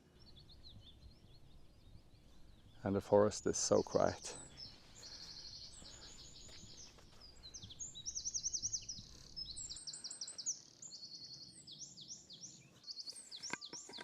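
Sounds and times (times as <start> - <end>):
songbirds trilling: 0.0 - 14.0.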